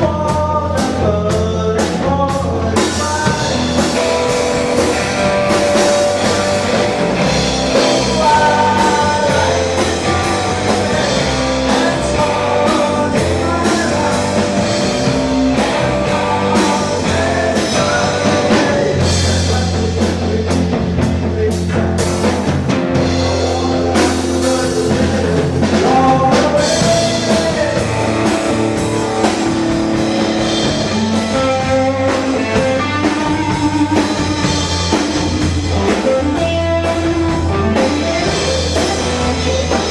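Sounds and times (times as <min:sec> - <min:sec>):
person singing: 0:00.0 - 0:22.3, 0:23.0 - 0:39.9
drum kit: 0:00.0 - 0:39.9
guitar: 0:00.0 - 0:39.9.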